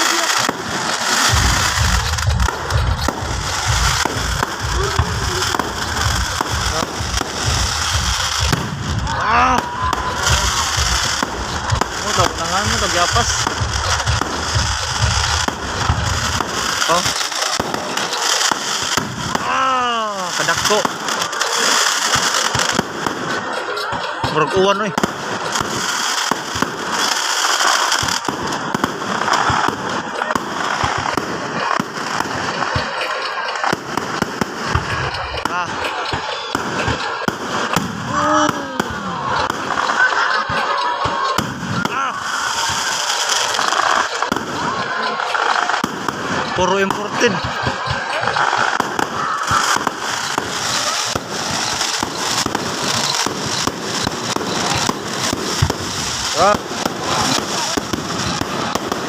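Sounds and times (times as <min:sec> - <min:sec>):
fireworks bangs: 0:00.0 - 0:59.0
fireworks crackling: 0:00.0 - 0:59.0.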